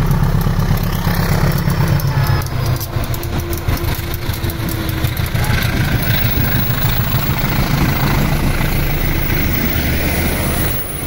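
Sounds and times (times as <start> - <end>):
diesel locomotive engine working hard: 0.0 - 11.0
train coaches rolling on rails: 0.0 - 11.0.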